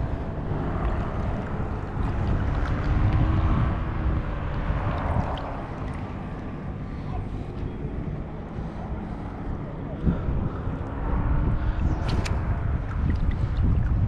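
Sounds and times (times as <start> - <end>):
motorboat engine rumbling: 0.0 - 14.0
wind on microphone: 0.0 - 14.0.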